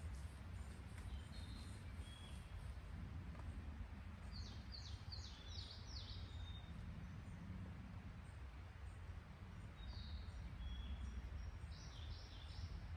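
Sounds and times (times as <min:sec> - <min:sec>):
low outdoor rumble: 0:00.0 - 0:12.9.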